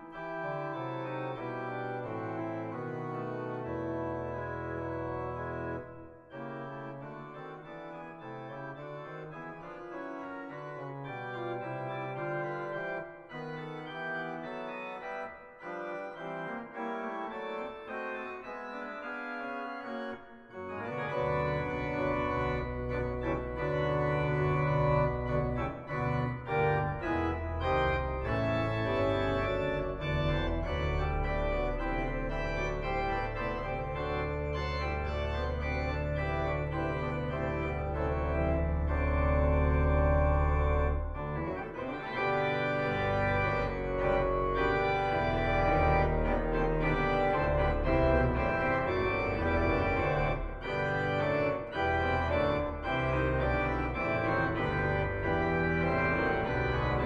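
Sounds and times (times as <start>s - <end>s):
organ playing held chords: 0.0s - 57.0s
deep organ bass notes: 0.2s - 57.0s.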